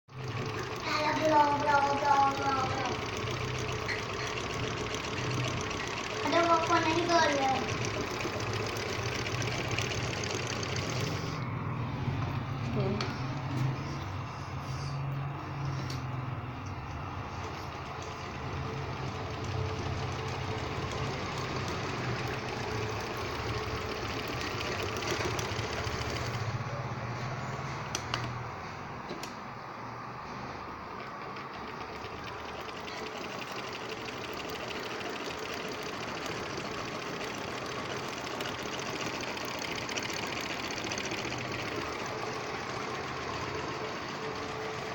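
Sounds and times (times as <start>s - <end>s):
sewing machine rattling: 0.1s - 11.4s, 15.3s - 28.4s, 30.2s - 44.9s.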